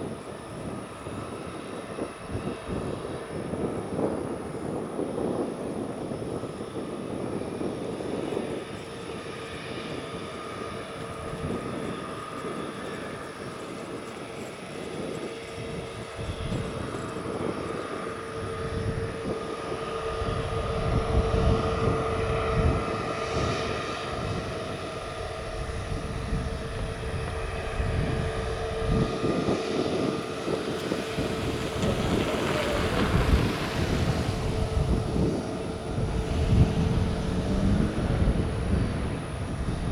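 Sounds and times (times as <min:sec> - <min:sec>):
jet engines whining and rumbling: 0:00.0 - 0:39.9.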